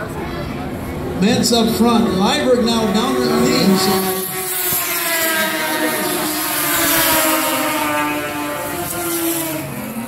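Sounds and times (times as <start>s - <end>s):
snowmobile engines racing: 1.2s - 10.0s.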